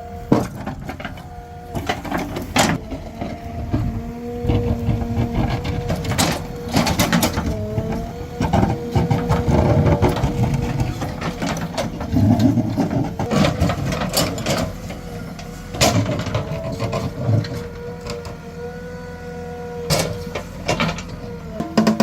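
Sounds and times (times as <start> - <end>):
diesel engine whining under load: 0.0 - 22.0.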